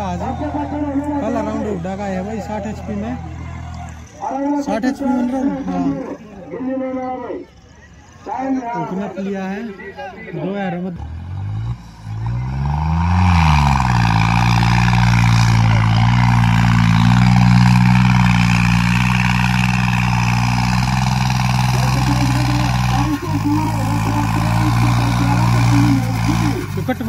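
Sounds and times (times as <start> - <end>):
tractor diesel engine revving: 0.0 - 6.4, 10.4 - 27.0.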